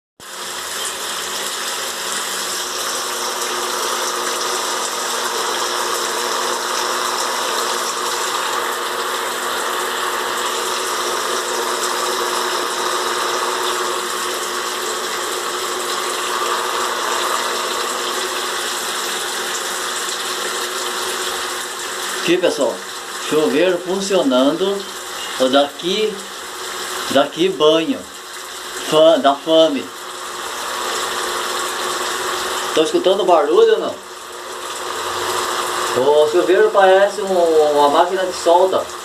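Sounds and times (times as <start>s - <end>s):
shower water spraying: 0.2s - 39.0s
electrical hum: 0.4s - 39.0s.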